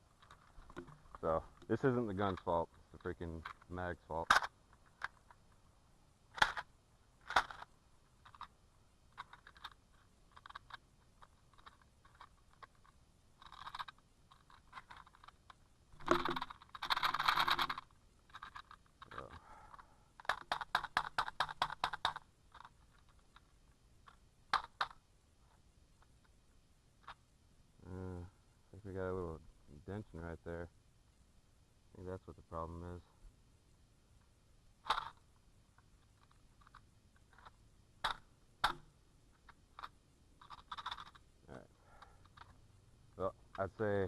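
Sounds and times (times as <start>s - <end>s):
rustling: 0.0s - 30.7s, 34.0s - 44.0s.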